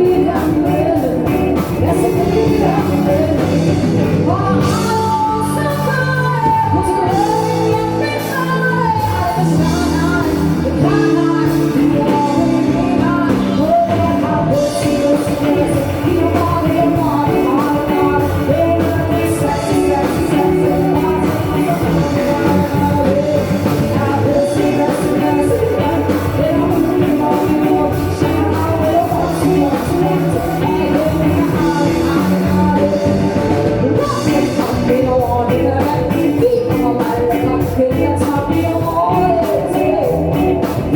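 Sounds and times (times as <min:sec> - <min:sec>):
person singing: 0:00.0 - 0:40.9
rock band playing: 0:00.0 - 0:40.9.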